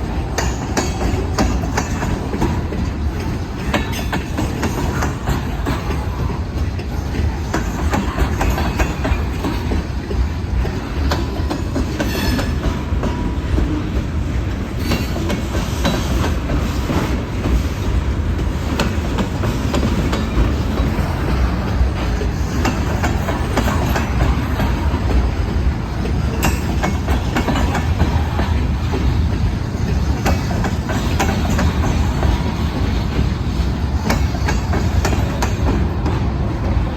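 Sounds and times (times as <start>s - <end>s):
freight train rolling past: 0.0s - 36.9s
wheels clacking over rail joints: 0.0s - 36.9s.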